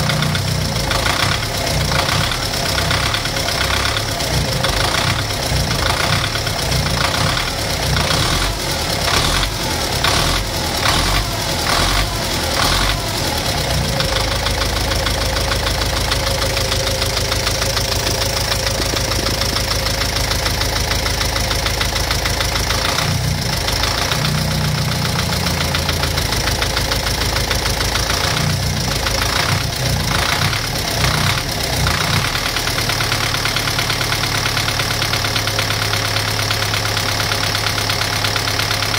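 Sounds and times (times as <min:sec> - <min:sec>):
knocking car engine revving: 0:00.0 - 0:38.9.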